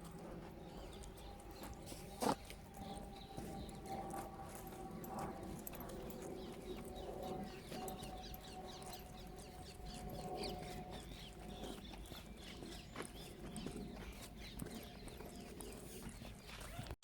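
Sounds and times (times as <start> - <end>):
birds chirping and singing: 0.0 - 16.9.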